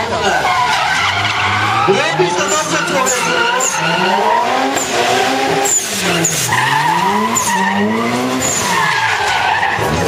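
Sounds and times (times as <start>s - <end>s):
car engine revving hard: 0.0s - 10.0s
tyres skidding and squealing: 0.0s - 10.0s.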